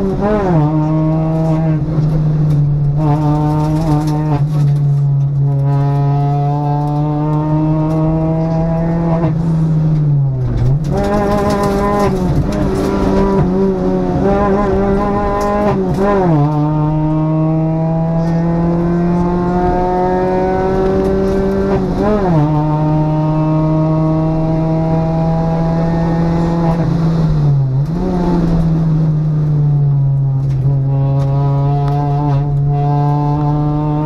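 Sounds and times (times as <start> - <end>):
rally car engine revving: 0.0 - 34.0.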